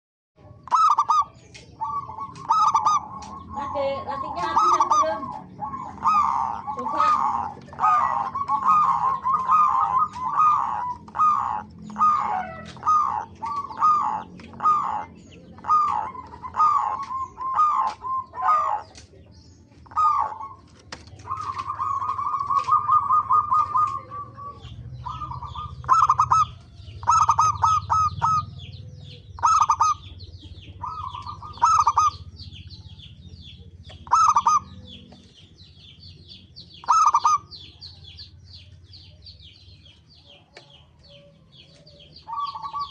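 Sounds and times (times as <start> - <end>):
doves cooing: 0.4 - 42.9
small birds chirping: 0.4 - 42.9.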